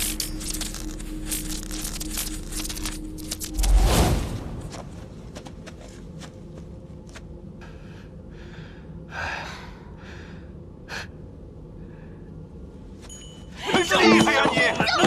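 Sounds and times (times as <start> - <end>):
low steady hum: 0.0 - 13.6.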